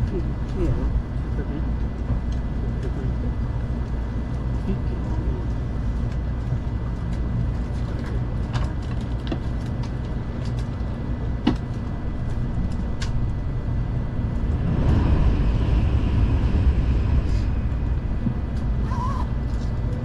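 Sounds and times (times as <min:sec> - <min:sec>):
train cabin low rumble: 0:00.0 - 0:20.0.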